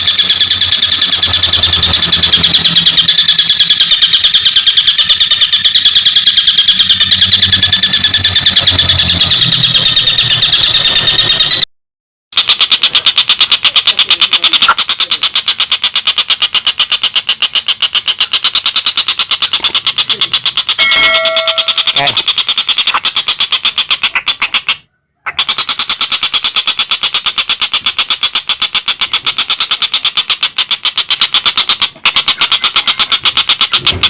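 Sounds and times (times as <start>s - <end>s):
kingfisher rattling chatter: 0.0s - 11.6s, 12.4s - 34.0s.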